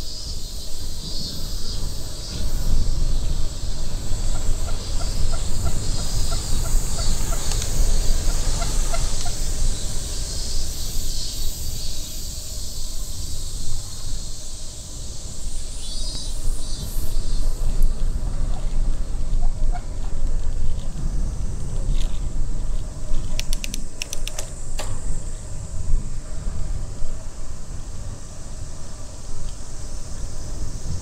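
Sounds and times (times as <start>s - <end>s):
cicadas buzzing: 0.0s - 31.0s
wind rumbling on microphone: 0.0s - 31.0s.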